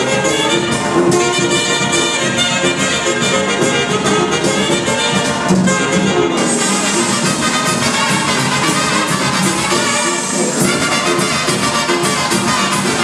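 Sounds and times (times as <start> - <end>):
dance music with brass horns: 0.0 - 13.0.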